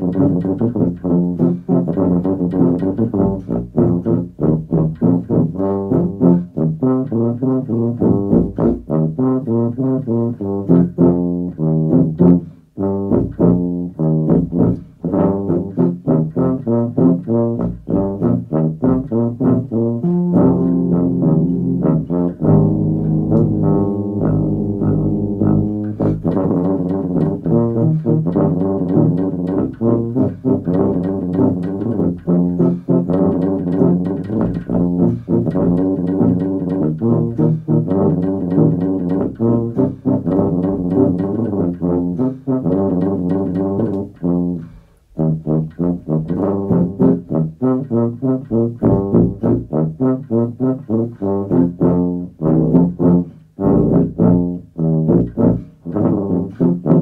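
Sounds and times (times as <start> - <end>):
tubas playing pop-rock: 0.0 - 57.0.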